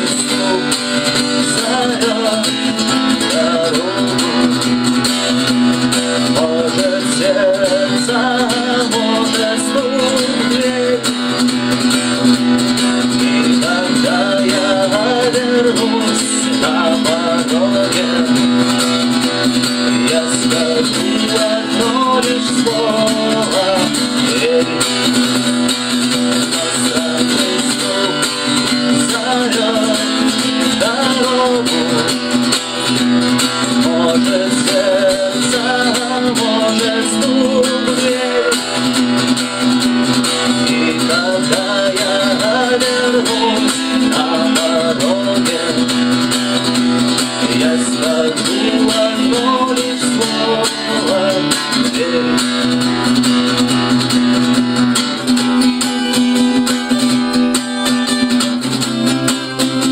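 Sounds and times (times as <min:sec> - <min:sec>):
guitars strumming: 0:00.0 - 0:59.9
melodic guitar line: 0:00.0 - 0:59.9.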